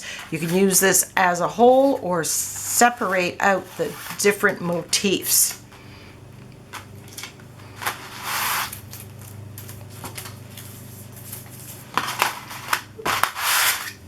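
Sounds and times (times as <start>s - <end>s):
plastic sheets rustling: 0.0s - 14.0s.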